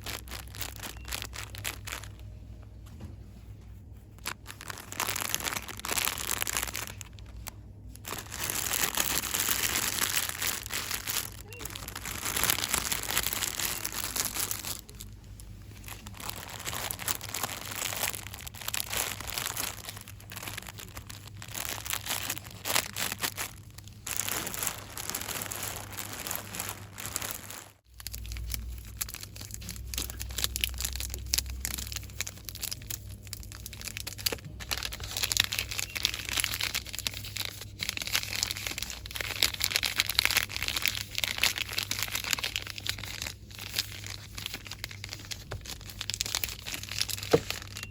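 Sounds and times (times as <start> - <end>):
packaging crinkling and rustling: 0.0 - 47.9.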